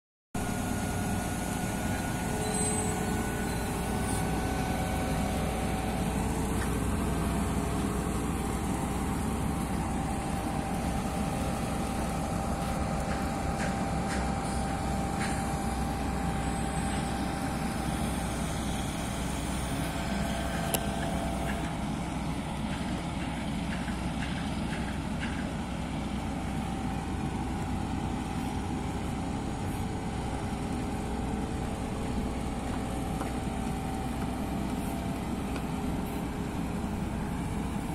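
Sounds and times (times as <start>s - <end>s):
steady whine: 0.4s - 23.1s, 25.5s - 37.9s
diesel engine running: 0.4s - 37.9s.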